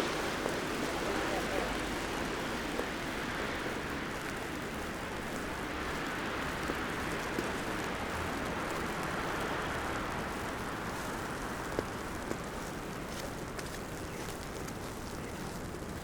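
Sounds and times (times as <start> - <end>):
wet city street hiss: 0.0 - 16.0.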